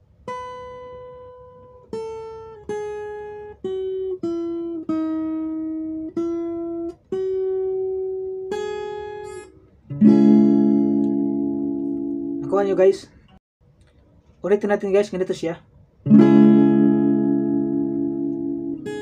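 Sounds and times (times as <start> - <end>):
acoustic guitar picked melody: 0.0 - 13.0, 16.0 - 19.0.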